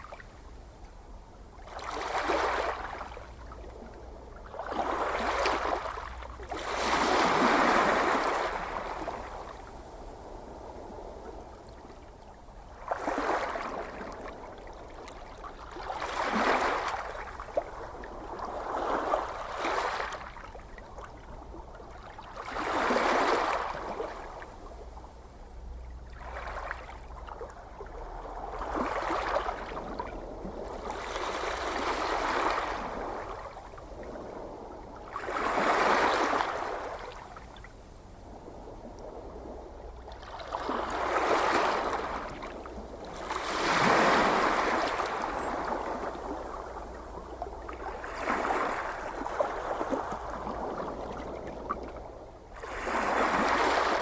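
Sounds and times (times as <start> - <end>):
gentle ocean waves on shore: 0.0 - 54.0.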